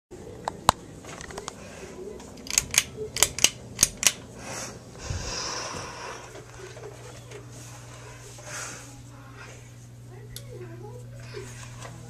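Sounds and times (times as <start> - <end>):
ceiling fan humming: 0.1 - 12.0.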